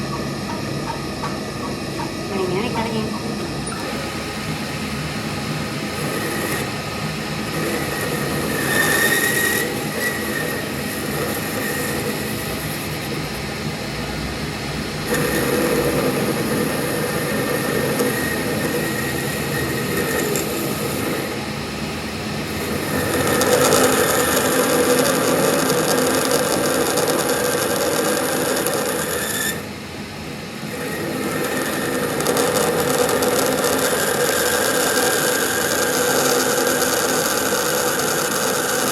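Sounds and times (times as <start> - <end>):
power tool droning: 0.0 - 38.9.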